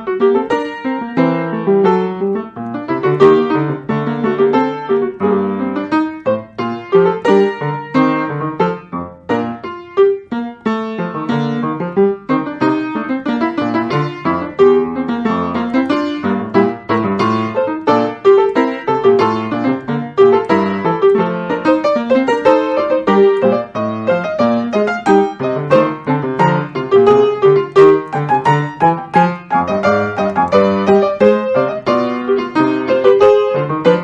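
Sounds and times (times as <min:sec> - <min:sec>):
lively solo piano: 0:00.0 - 0:34.0.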